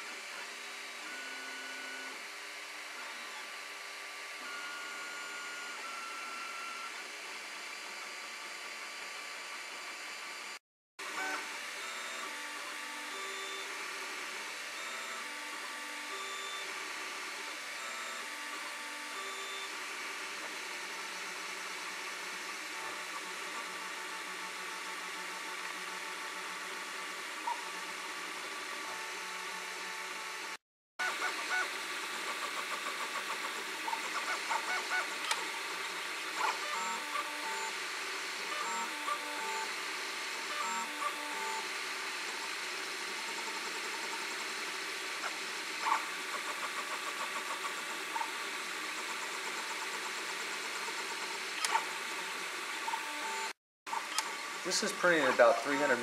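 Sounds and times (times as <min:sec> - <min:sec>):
steady printer whir: 0:00.0 - 0:56.0.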